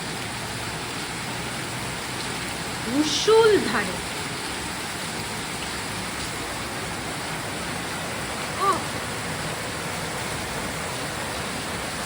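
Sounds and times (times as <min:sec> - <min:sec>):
torrential rain: 0:00.0 - 0:12.0.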